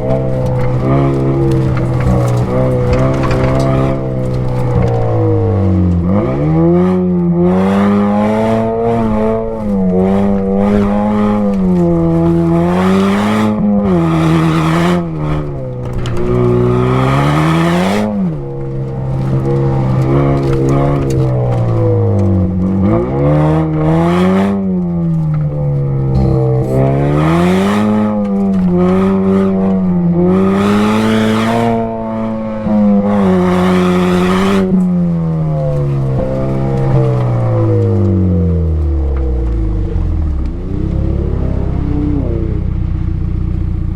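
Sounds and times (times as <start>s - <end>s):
tyres on gravel: 0.0s - 6.8s, 7.9s - 31.5s, 33.0s - 43.9s
car engine revving: 0.0s - 43.9s.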